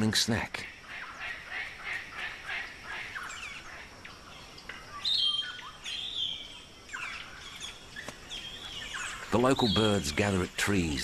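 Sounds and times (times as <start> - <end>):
birds chirping and whistling: 0.8 - 11.0.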